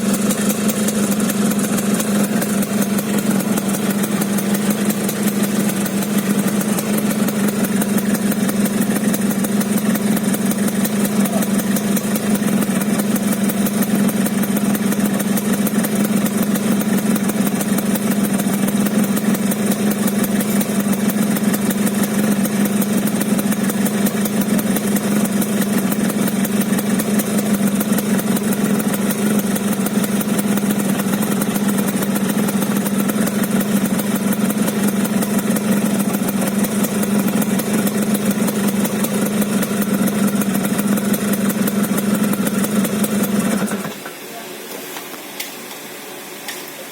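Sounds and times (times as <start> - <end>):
motorcycle engine idling roughly: 0.0 - 44.1.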